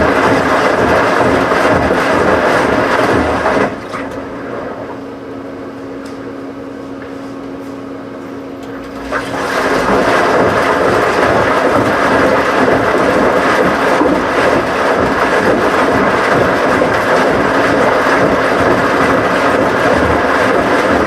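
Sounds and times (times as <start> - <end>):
washing machine churning: 0.0 - 6.5, 8.4 - 21.0.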